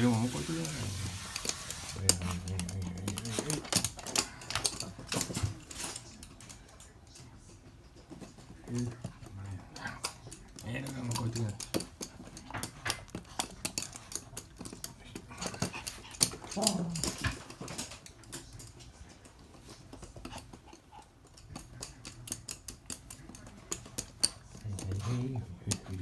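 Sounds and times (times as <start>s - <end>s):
dog claws clicking on floor: 0.0s - 26.0s.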